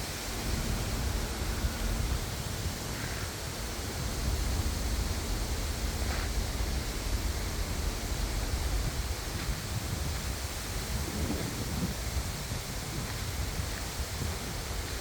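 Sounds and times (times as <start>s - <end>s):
wind buffeting microphone: 0.0s - 15.0s
wind rustling tree leaves: 0.0s - 15.0s.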